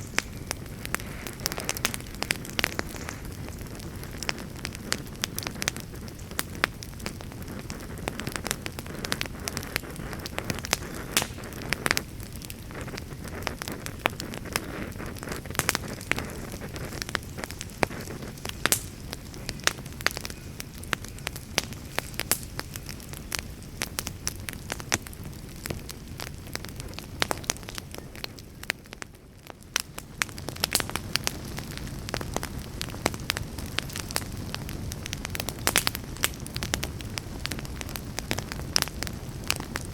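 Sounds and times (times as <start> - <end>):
campfire crackling and popping: 0.0 - 39.9
low rush of flames: 0.0 - 39.9.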